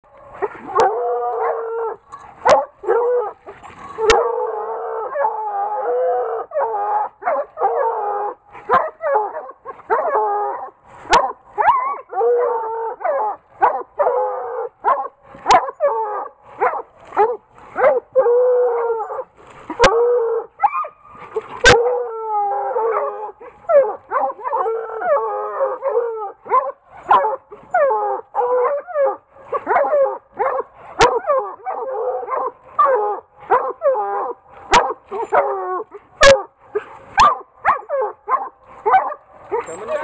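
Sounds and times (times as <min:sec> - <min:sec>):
hounds baying and howling: 0:00.1 - 0:40.0.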